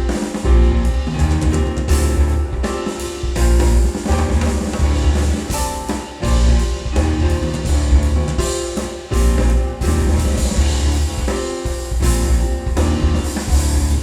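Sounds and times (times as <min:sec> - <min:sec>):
heavy bass line: 0:00.0 - 0:02.7, 0:03.3 - 0:05.6, 0:06.2 - 0:14.0
drum kit: 0:00.0 - 0:14.0.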